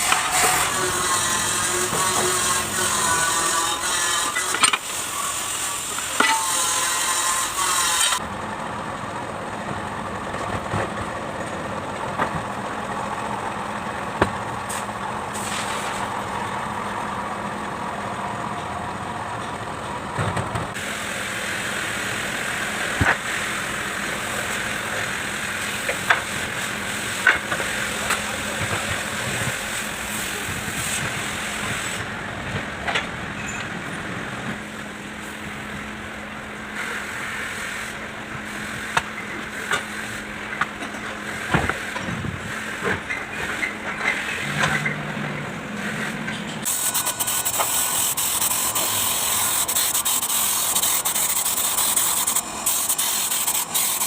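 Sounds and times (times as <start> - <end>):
diesel engine running: 8.2 - 54.0.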